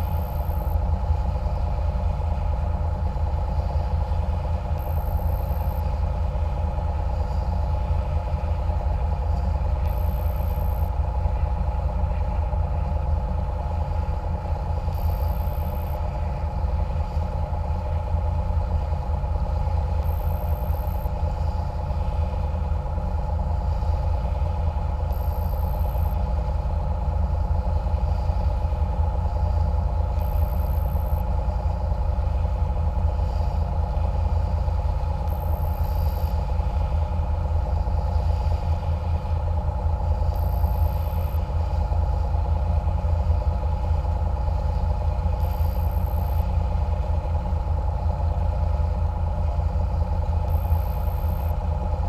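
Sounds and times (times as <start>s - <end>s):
boat engines droning: 0.0s - 52.0s
steady hum: 0.0s - 52.0s.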